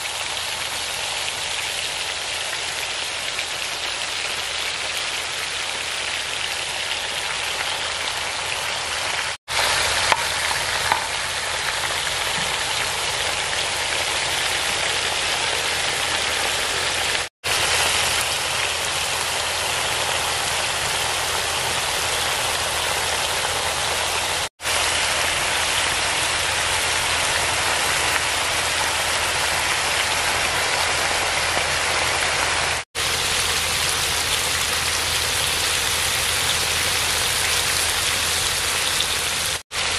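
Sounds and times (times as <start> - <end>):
patties sizzling in hot oil: 0.0 - 39.9.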